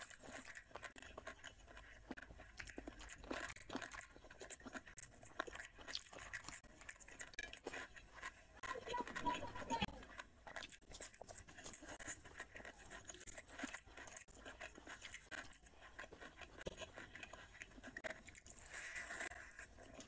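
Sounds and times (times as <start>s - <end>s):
fingers mixing rice on plate: 0.0s - 20.0s
person chewing with mouth smacks: 0.0s - 20.0s.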